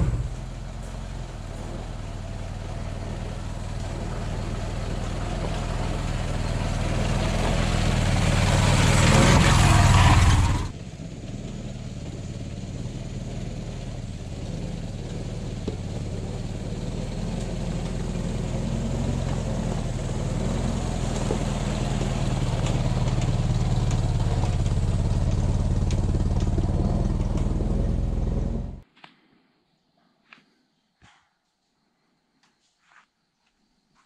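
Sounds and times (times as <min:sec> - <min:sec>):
car engine running: 0:00.0 - 0:28.8.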